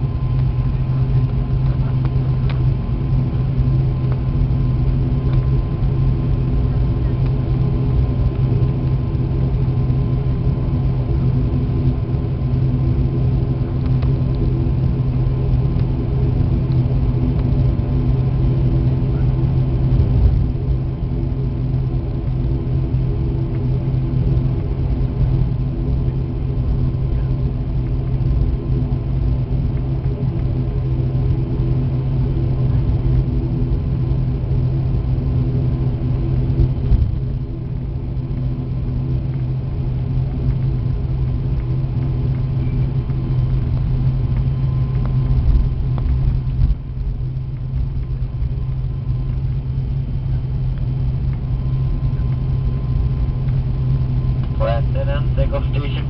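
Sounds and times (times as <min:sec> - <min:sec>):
turboprop engine drone: 0:00.0 - 0:56.0.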